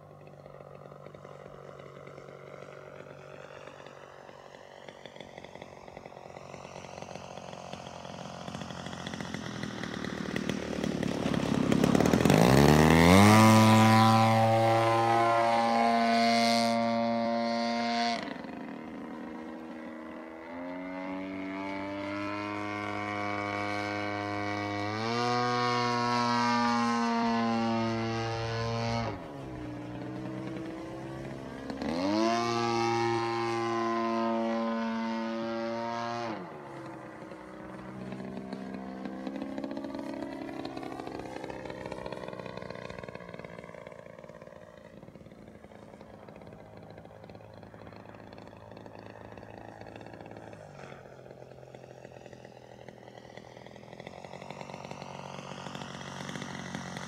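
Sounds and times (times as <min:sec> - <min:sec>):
propeller plane engine overhead: 0:00.0 - 0:57.0.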